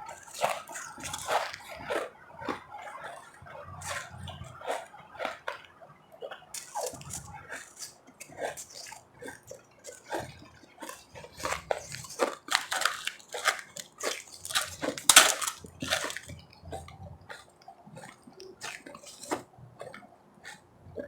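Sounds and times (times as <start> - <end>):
ice crunching: 0.0 - 5.8, 6.6 - 17.5, 18.2 - 19.5
muffled chewing: 0.0 - 21.0.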